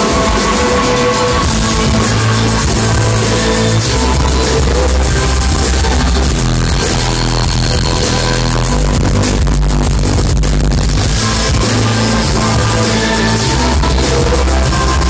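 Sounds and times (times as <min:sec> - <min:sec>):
live electronic rock band: 0:00.0 - 0:15.0.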